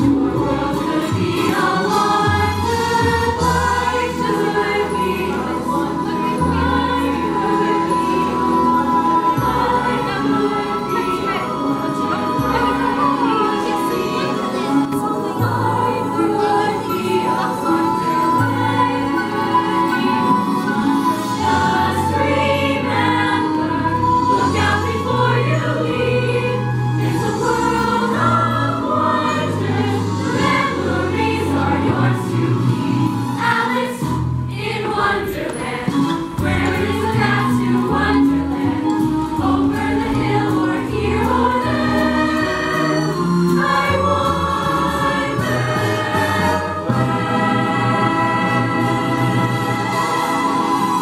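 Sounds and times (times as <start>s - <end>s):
choir singing: 0.0s - 51.0s
instrumental accompaniment with bass: 0.0s - 51.0s.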